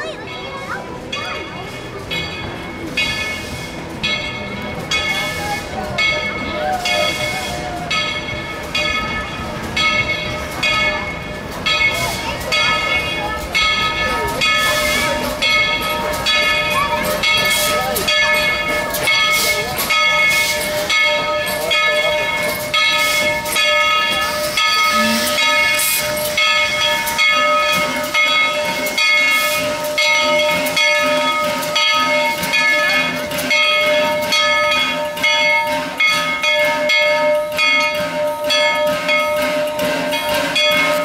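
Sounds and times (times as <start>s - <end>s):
steam locomotive chuffs: 0.0s - 41.0s
steam hissing: 1.6s - 36.8s.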